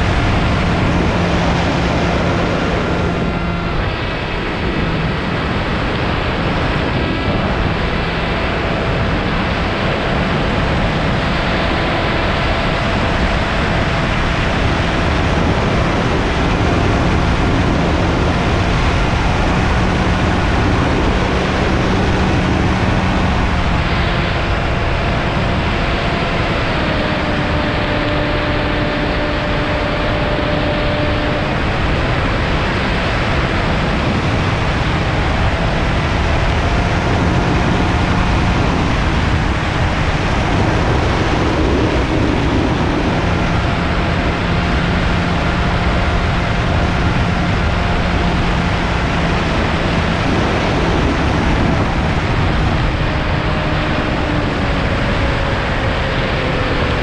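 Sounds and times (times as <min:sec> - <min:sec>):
model aircraft motor hum: 0:00.0 - 0:57.0
wind rushing over camera: 0:00.0 - 0:57.0.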